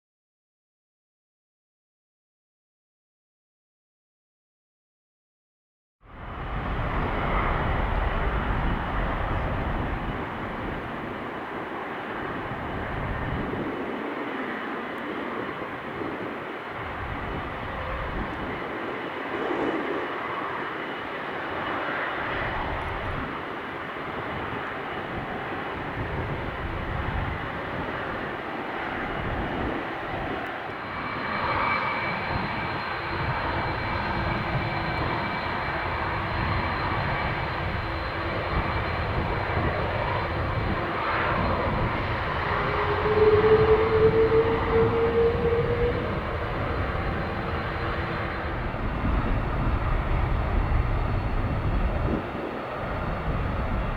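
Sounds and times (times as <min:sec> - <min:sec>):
jet engines rumbling and whining: 0:06.1 - 0:53.9.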